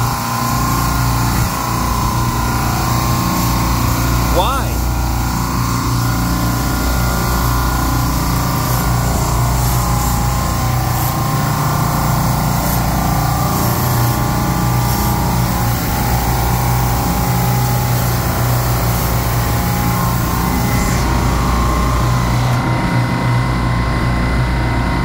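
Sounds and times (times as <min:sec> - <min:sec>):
refrigeration compressors humming: 0:00.0 - 0:25.0.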